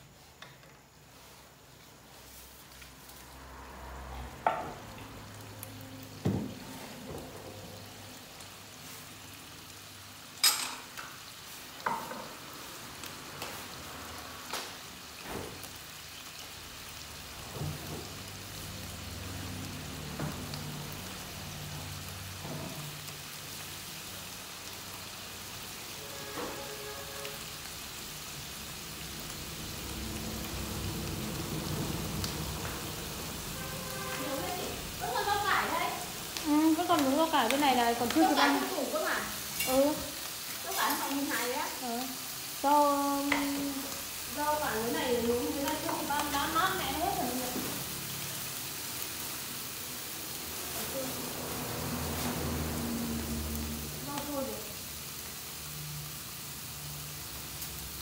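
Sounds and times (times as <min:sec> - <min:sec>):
meat sizzling in a frying pan: 0:00.0 - 0:58.0.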